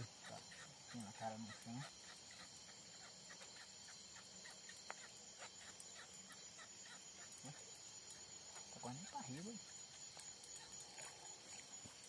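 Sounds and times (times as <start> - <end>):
insect chorus buzzing and chirping: 0.0 - 12.0.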